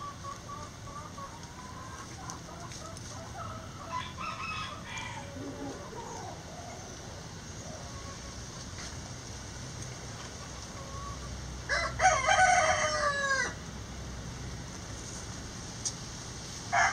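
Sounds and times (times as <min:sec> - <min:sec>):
chickens clucking and calling: 0:00.0 - 0:13.7.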